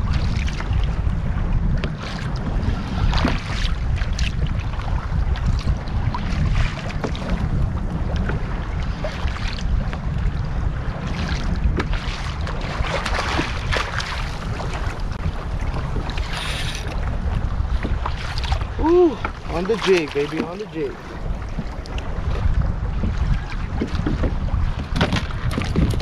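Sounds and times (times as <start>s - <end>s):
water washing against kayak hull: 0.0s - 26.0s
wind buffeting microphone: 0.0s - 26.0s.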